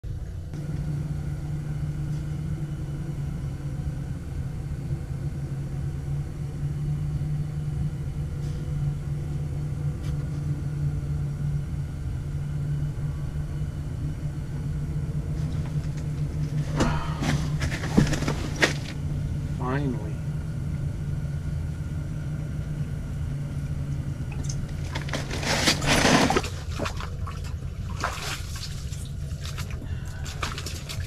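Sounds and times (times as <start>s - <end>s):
motor humming: 0.2s - 27.9s.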